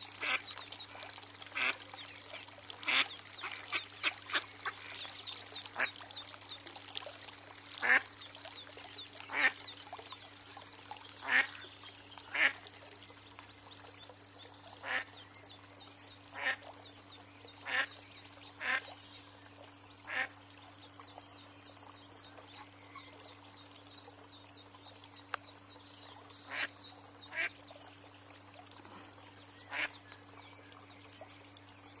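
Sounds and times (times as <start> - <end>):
faint water hiss: 0.0 - 32.0.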